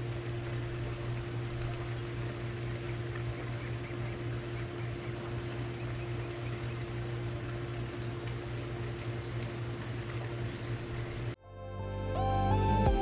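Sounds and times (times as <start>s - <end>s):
condenser fan rushing: 0.0s - 11.4s
compressor hum: 0.0s - 13.0s.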